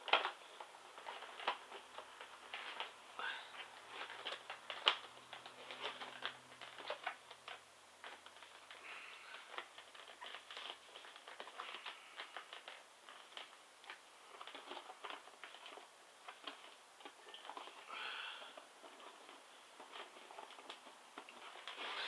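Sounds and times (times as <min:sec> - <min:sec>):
packaging rustling: 0:00.0 - 0:22.0.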